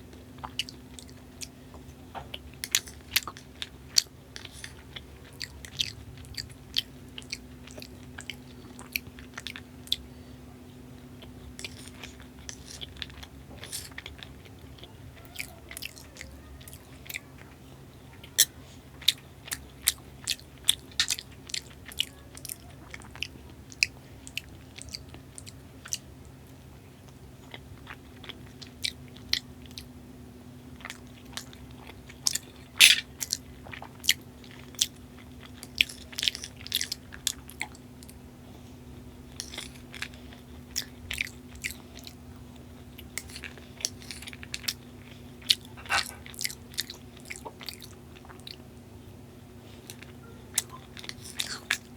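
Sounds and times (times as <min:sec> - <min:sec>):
faint hum: 0:00.0 - 0:51.9
person chewing: 0:00.1 - 0:10.1, 0:11.2 - 0:17.5, 0:18.1 - 0:29.9, 0:30.8 - 0:38.2, 0:39.3 - 0:48.6, 0:49.6 - 0:51.9.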